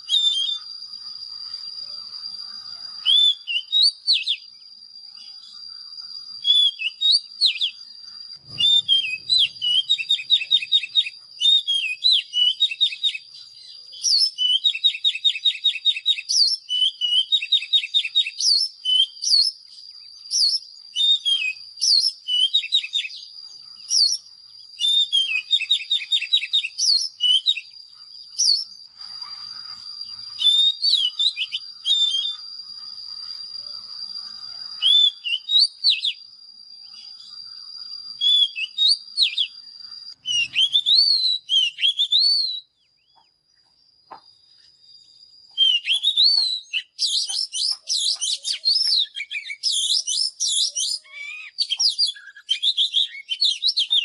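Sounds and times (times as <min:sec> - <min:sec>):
bird singing whistled phrases and trills: 0:00.0 - 0:43.7, 0:44.4 - 0:54.0
steady high-pitched whine: 0:00.0 - 0:54.0.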